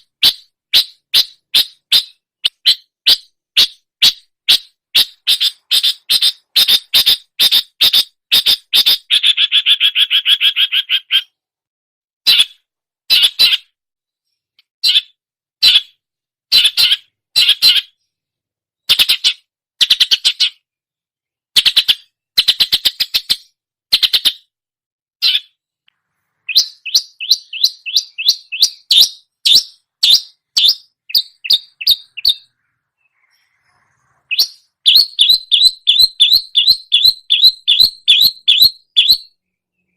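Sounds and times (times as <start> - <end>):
bird chattering song: 0.0 - 11.4, 12.3 - 18.2, 18.8 - 20.7, 21.6 - 24.5, 25.2 - 25.6, 26.4 - 39.9.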